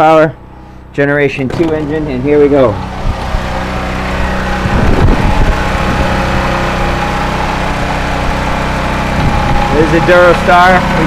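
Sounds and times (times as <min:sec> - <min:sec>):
generator engine running: 0:00.0 - 0:11.0
steady whine: 0:00.0 - 0:11.0.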